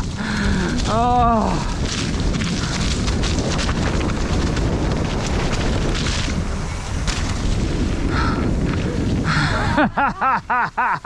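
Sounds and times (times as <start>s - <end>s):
bike clicks and rattles: 0.0s - 9.2s
bike tyres on rough ground: 0.0s - 10.7s
wind buffeting microphone: 0.0s - 10.8s.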